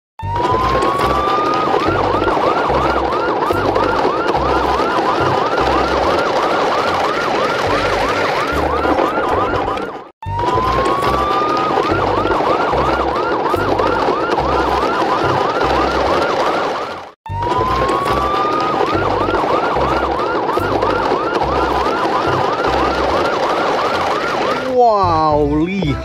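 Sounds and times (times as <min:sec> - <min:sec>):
electronic siren whooping: 0:00.2 - 0:26.0.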